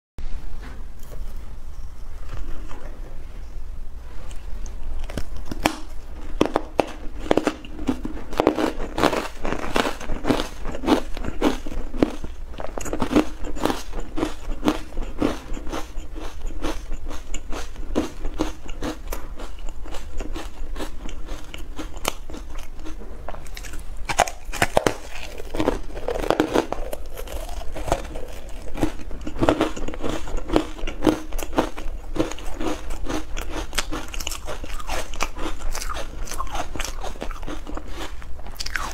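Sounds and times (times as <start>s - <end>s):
low steady hum: 0.2s - 38.9s
ice being chewed crunching: 4.3s - 38.9s.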